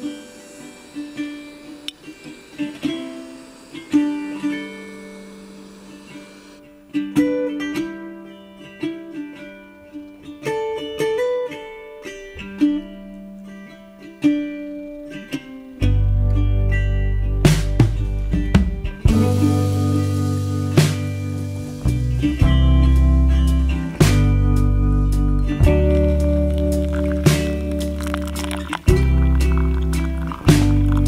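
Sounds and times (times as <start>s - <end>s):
plucked acoustic string melody: 0.0s - 31.0s.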